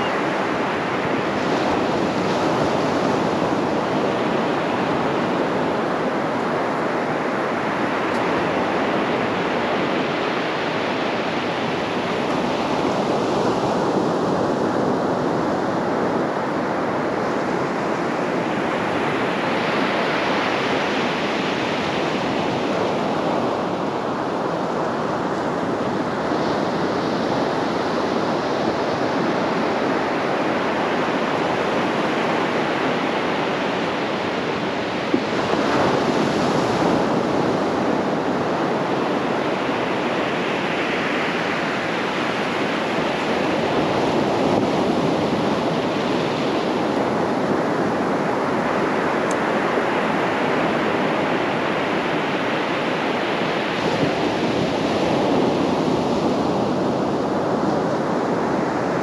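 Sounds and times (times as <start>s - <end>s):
waves breaking on beach: 0.0s - 59.0s.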